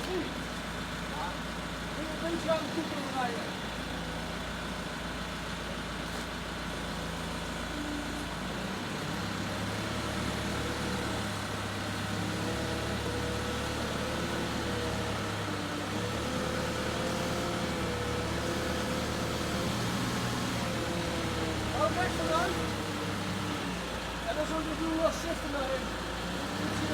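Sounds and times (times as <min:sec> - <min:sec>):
forklift engine running: 0:00.0 - 0:26.9.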